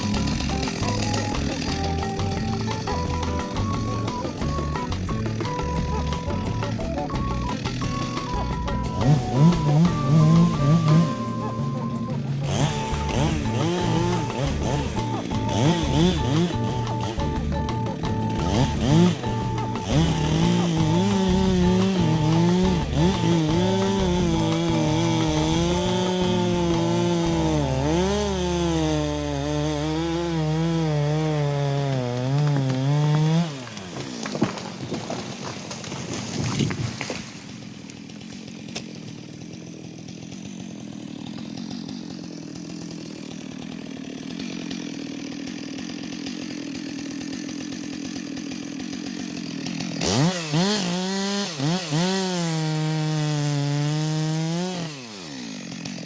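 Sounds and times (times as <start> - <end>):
chainsaw running: 0.0 - 56.0.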